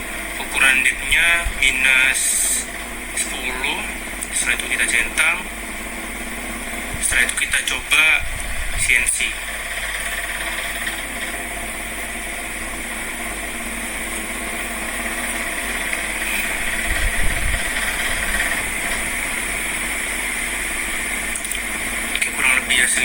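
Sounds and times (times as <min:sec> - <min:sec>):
machine hum with hiss: 0:00.0 - 0:23.0.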